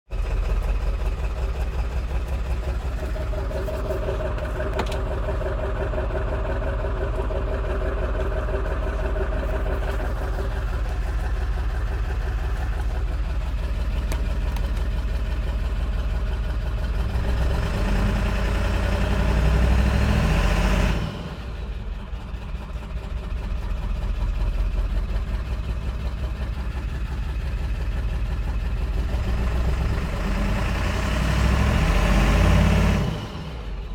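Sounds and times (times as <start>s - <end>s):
vehicle engine idling roughly: 0.0s - 32.2s, 33.2s - 33.9s.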